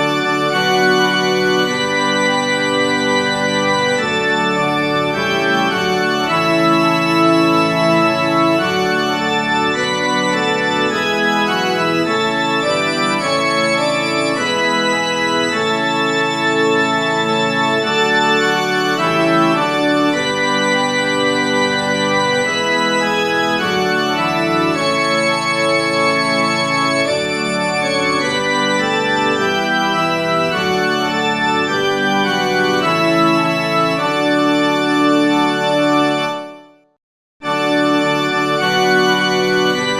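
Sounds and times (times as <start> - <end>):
organ chords: 0.0 - 36.8, 37.4 - 39.9.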